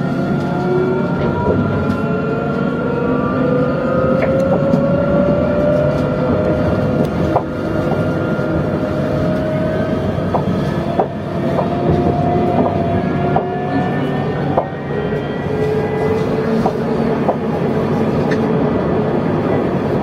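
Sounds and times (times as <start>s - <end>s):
tram motor whine: 0.0s - 20.0s
wheel-on-rail rumble: 0.1s - 20.0s.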